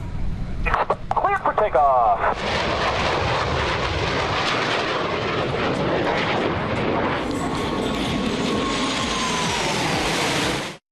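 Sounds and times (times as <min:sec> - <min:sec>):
aircraft engine roar: 0:00.0 - 0:10.8.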